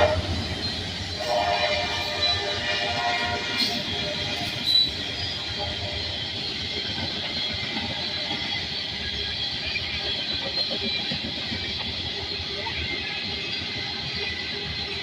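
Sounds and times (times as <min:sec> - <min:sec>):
freight train rumbling past: 0:00.0 - 0:15.0
high wheel squeal: 0:00.0 - 0:15.0.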